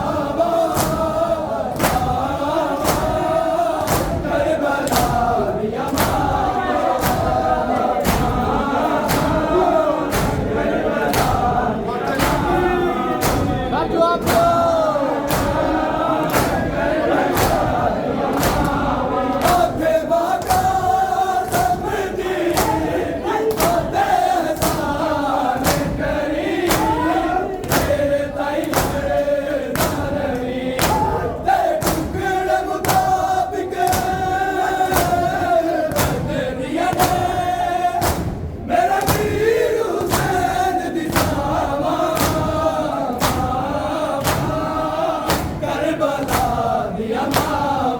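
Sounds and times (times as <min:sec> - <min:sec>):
men chanting in unison: 0:00.0 - 0:47.9
rhythmic chest beating: 0:00.0 - 0:47.9.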